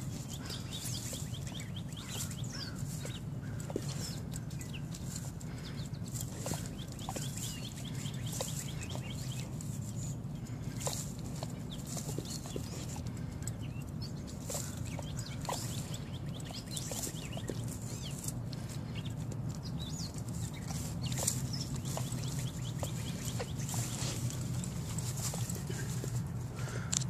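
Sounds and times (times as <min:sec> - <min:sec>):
rustles in the grass: 0:00.0 - 0:26.8
dog sniffing and snuffling: 0:00.0 - 0:26.9
small birds chirping: 0:00.0 - 0:27.0
steady low hum: 0:00.0 - 0:27.0.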